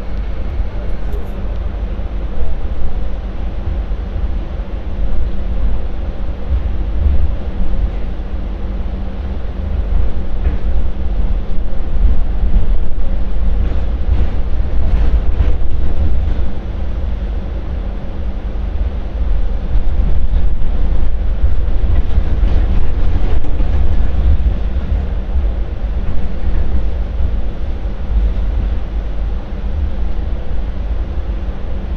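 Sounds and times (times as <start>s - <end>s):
light rail train rumble: 0.0s - 31.9s
wind buffeting microphone: 0.0s - 31.9s.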